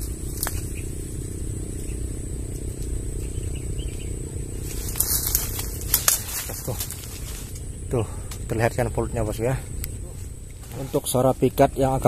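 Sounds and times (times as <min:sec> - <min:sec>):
steady low rumble: 0:00.0 - 0:12.0
thin high-pitched whine: 0:00.0 - 0:12.0
twigs and leaves rustling: 0:00.0 - 0:12.0.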